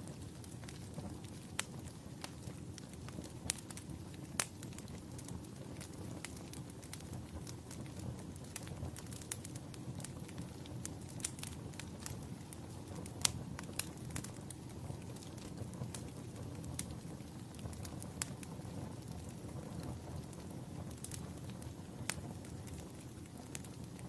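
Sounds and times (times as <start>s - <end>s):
fire pops: 0.0s - 24.0s
low fire rumble: 0.0s - 24.0s
wood fire crackling: 0.0s - 24.0s.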